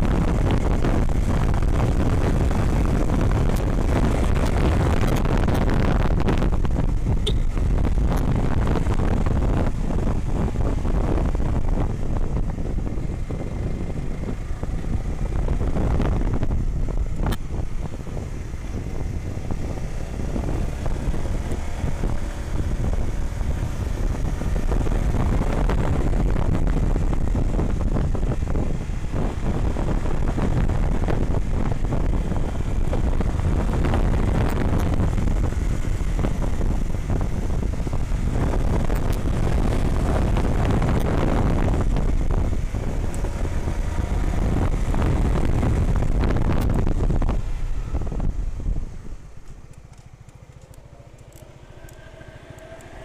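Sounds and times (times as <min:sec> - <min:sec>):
motorcycle engine revving: 0:00.0 - 0:53.0
wind buffeting microphone: 0:00.0 - 0:53.0.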